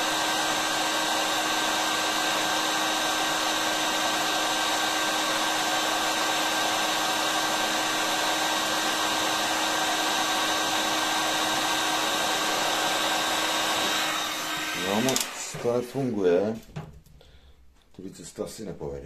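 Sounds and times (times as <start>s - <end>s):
hot air gun blowing: 0.0s - 15.8s.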